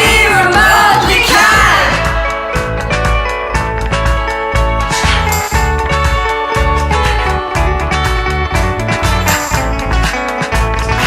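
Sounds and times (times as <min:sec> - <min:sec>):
pop-rock song with electric guitar: 0:00.0 - 0:11.0.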